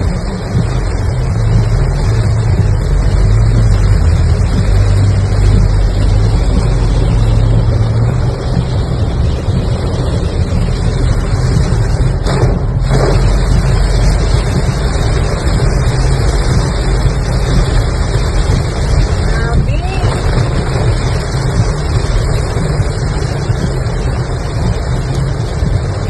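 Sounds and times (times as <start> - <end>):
car engine and tyres humming: 0.0 - 26.0
rain and spray hissing: 0.0 - 26.0.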